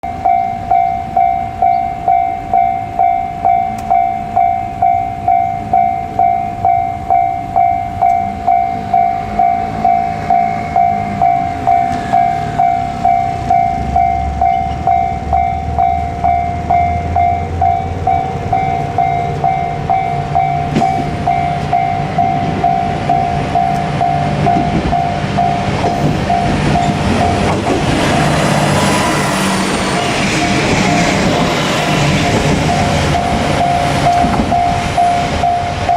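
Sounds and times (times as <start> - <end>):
diesel railcar engine rumble: 0.0 - 35.9
level-crossing alarm ringing: 0.0 - 35.9.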